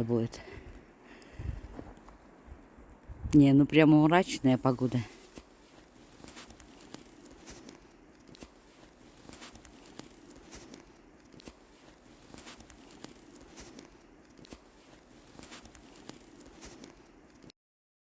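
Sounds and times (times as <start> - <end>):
footsteps crunching in snow: 0.0 - 3.3, 4.1 - 17.5.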